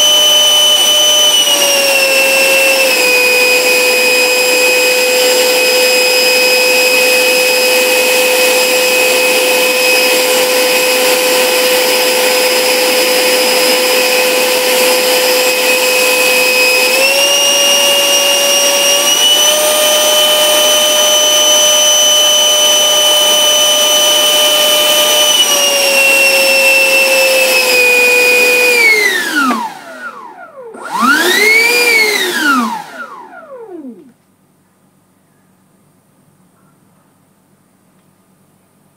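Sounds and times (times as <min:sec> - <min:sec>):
electric ducted fan whine: 0:00.0 - 0:34.5.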